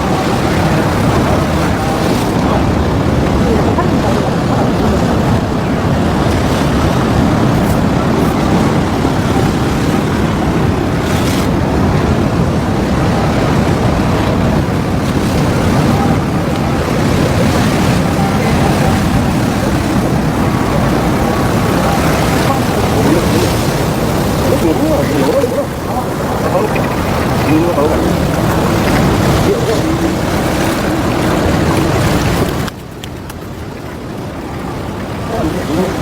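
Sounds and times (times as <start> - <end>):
sea surf: 0.0 - 36.0
wind buffeting microphone: 0.0 - 36.0.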